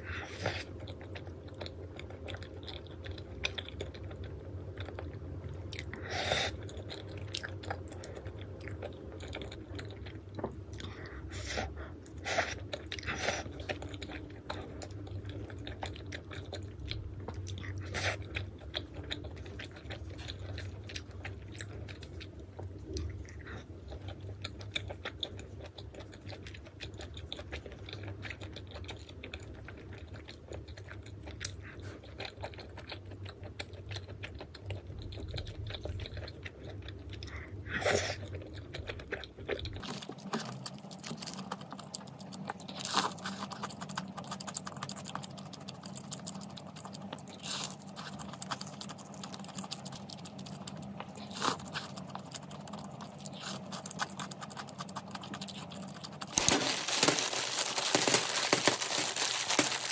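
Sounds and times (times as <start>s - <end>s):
low background hum: 0.0s - 59.9s
person chewing crunchy food: 0.0s - 59.9s.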